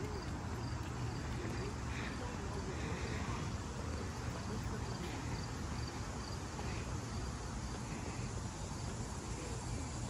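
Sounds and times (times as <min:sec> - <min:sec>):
high insect drone: 0:00.0 - 0:10.0.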